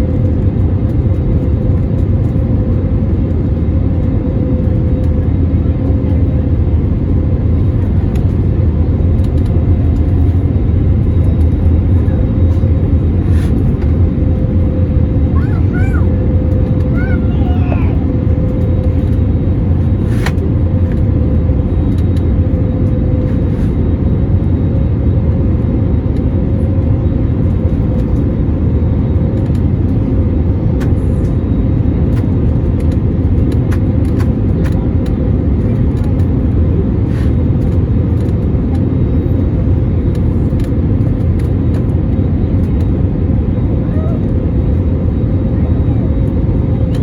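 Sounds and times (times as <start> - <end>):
jet engine and airflow rumble: 0.0 - 47.0.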